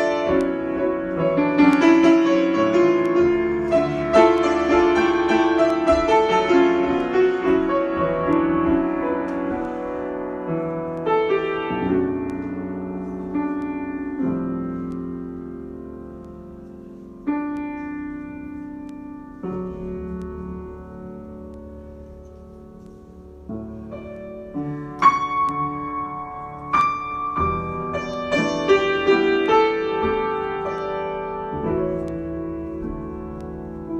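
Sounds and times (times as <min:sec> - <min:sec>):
solo piano: 0:00.0 - 0:33.9.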